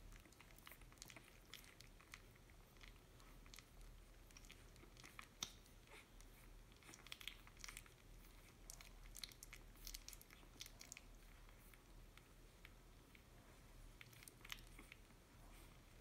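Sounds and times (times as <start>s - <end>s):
puppies suckling: 0.0s - 16.0s.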